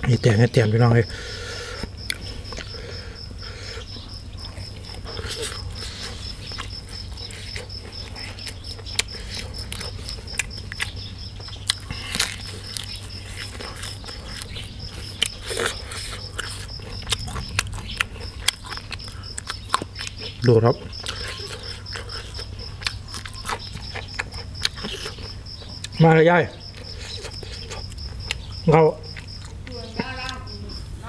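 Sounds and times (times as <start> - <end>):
chewing and crunching vegetables: 0.0 - 30.5
insect chirping: 0.0 - 31.0.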